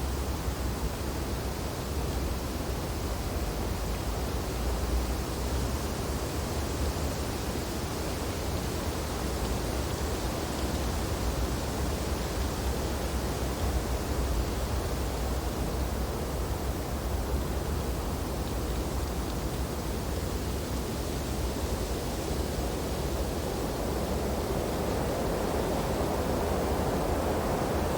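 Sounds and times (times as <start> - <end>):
wind through tree branches: 0.0 - 27.9.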